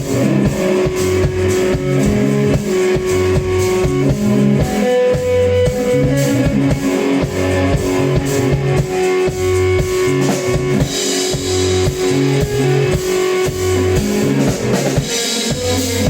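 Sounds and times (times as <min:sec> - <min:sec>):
drum kit steady beat: 0:00.0 - 0:16.0
electric guitar long note: 0:00.0 - 0:16.0
repeating bass line: 0:00.0 - 0:16.0.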